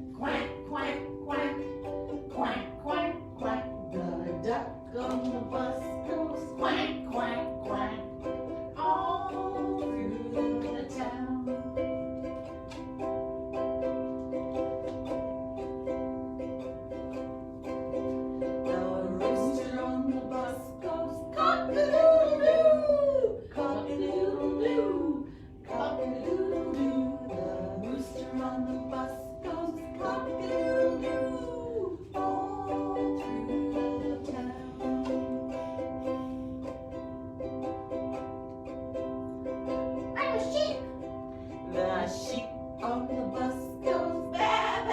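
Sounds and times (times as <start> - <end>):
person singing: 0.0 - 12.6, 17.9 - 37.0, 38.9 - 44.9
ukulele strumming chords: 0.0 - 44.9.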